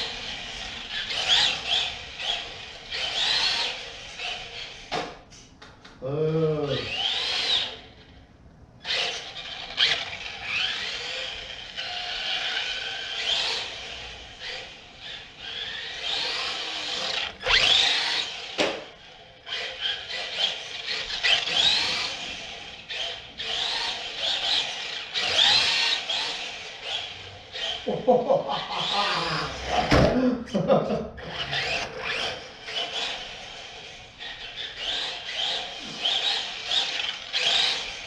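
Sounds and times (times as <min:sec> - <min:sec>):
toy car electric motor whining: 0:00.0 - 0:05.0, 0:06.7 - 0:08.2, 0:08.8 - 0:27.9, 0:28.7 - 0:29.9, 0:31.2 - 0:38.0.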